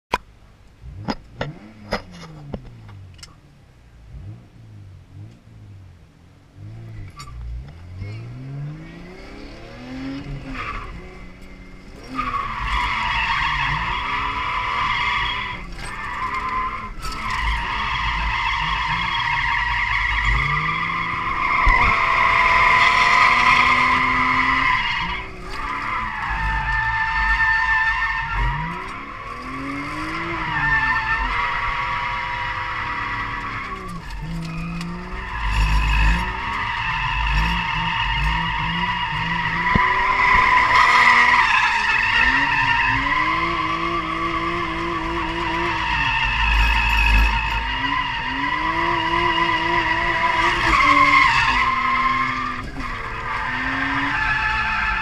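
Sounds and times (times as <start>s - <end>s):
car engine revving: 6.4s - 55.0s
tyre squeal: 10.0s - 55.0s.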